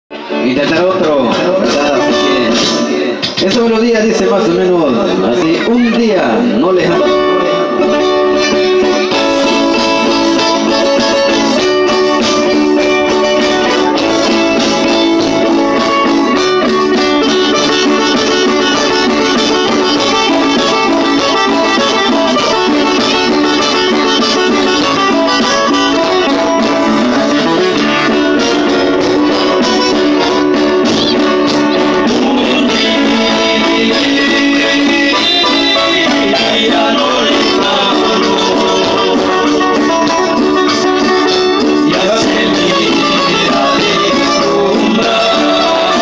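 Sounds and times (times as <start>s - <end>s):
acoustic guitars strummed: 0.1s - 46.0s
electronic keyboard playing: 0.2s - 46.0s.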